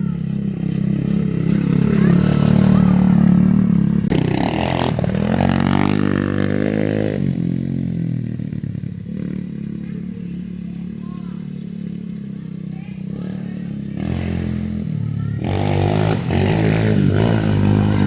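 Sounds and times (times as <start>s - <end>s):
small engine revving: 0.0s - 18.0s.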